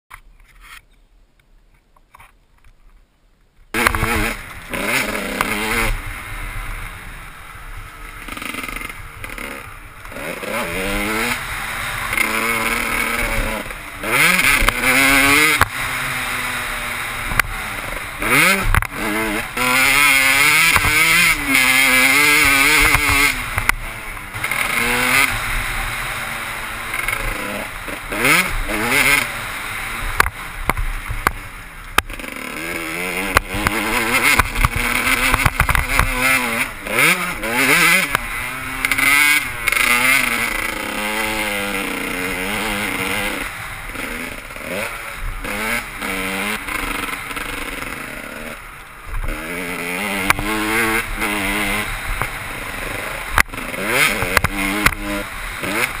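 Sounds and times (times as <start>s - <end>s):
motocross engine revving: 3.7s - 56.0s.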